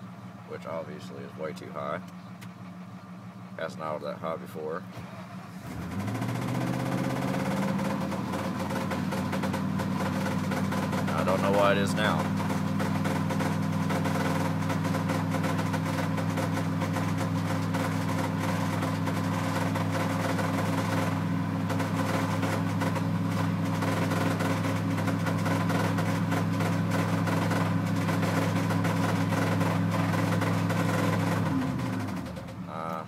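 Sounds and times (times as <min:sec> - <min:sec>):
truck engine idling fast: 0:00.0 - 0:33.0.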